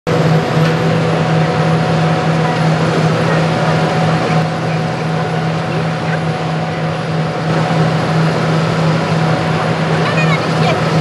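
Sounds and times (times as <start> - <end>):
excavator diesel engine running: 0.1 - 11.0.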